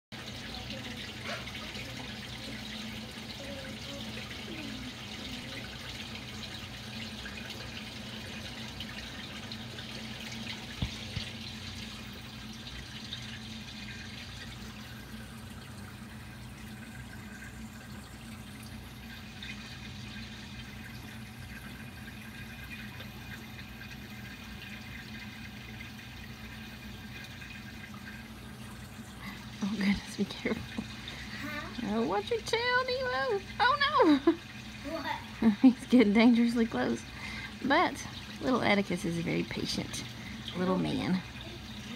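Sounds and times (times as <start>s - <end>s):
water trickling: 0.1s - 41.9s.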